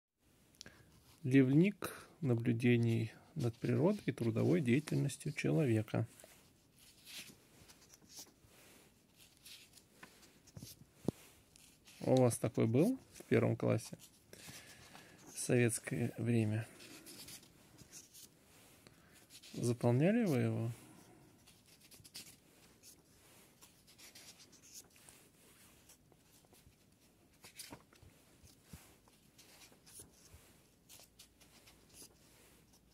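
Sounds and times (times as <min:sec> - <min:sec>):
paper pages rustling: 0:02.3 - 0:32.9.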